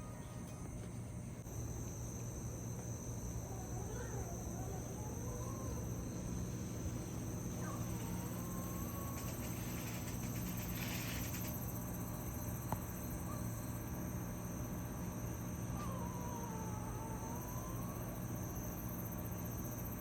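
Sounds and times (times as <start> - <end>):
insects chirping: 0.0 - 20.0
pulsing insect trill: 0.0 - 20.0.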